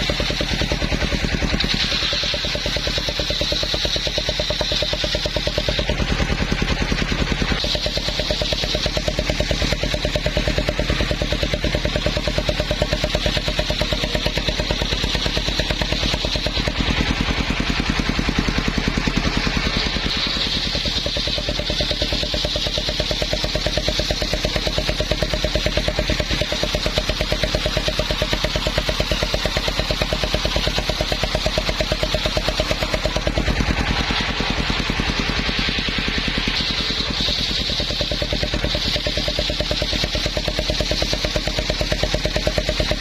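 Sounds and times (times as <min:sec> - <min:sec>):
engine-driven circular saw running: 0:00.0 - 0:43.0
saw blade high whine: 0:00.0 - 0:43.0.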